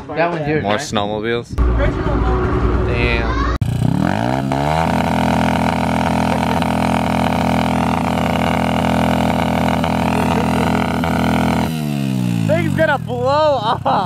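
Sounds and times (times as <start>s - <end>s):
pit bike engine revving: 1.6s - 14.0s.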